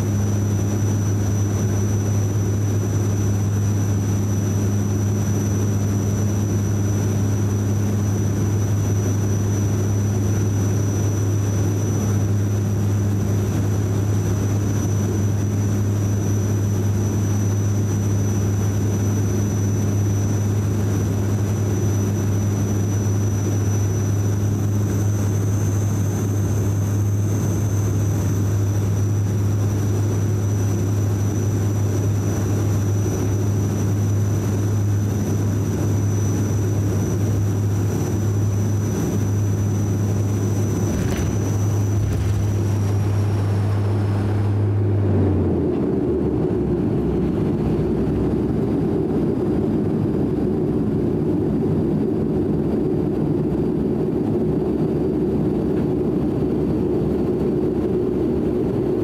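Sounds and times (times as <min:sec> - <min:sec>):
high engine whine: 0:00.0 - 0:59.0
propeller drone: 0:00.0 - 0:59.0.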